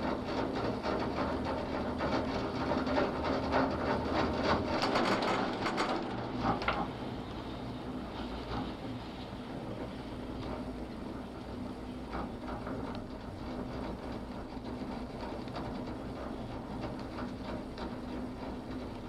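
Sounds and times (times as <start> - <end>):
gondola cabin clacking and rattling: 0.0 - 19.0
gondola cabin running smoothly: 0.0 - 19.0.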